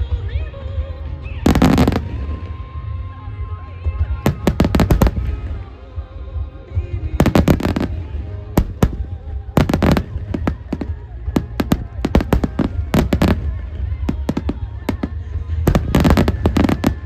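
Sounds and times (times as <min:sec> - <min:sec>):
fireworks bursting bangs: 0:01.4 - 0:03.0, 0:03.9 - 0:17.0.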